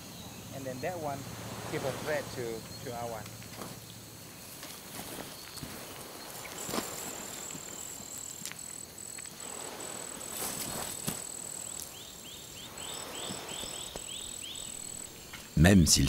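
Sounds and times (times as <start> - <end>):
insects shrilling: 0.0 - 15.9.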